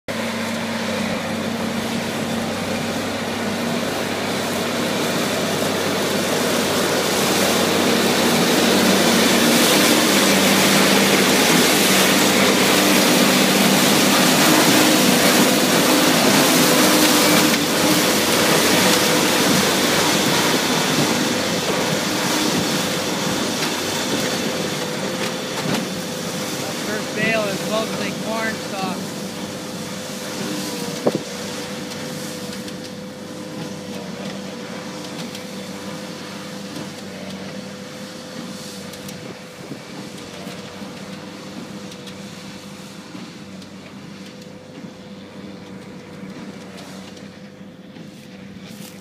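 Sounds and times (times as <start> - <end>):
tractor and baler running: 0.1 - 49.0.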